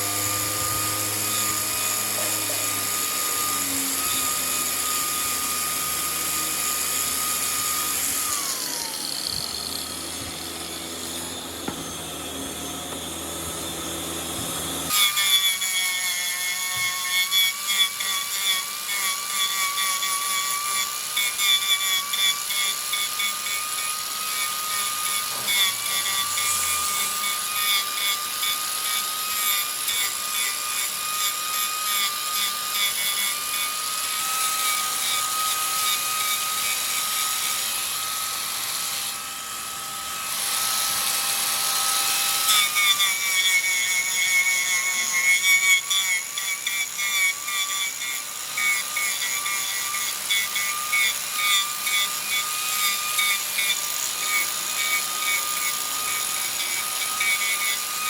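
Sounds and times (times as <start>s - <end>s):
wood lathe whining: 0.0s - 58.0s.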